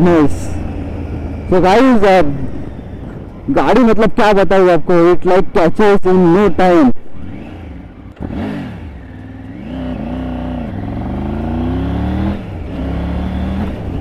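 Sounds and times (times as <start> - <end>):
motorcycle engine accelerating: 0.0 - 3.7, 6.3 - 14.0.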